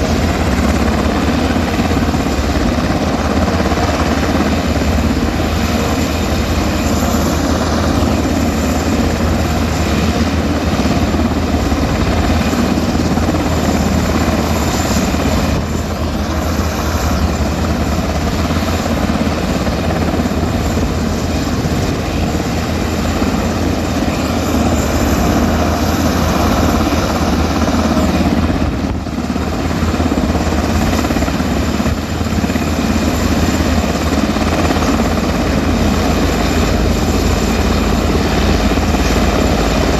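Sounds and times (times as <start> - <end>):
helicopter rotor thrum: 0.0 - 39.9.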